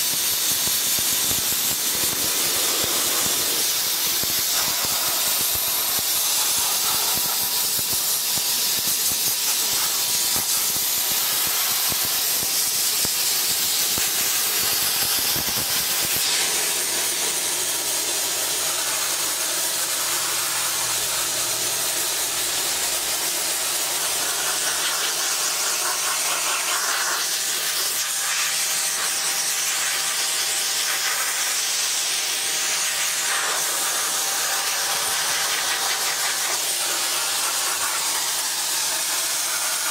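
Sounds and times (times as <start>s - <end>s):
blaster nozzle hissing: 0.0s - 39.9s.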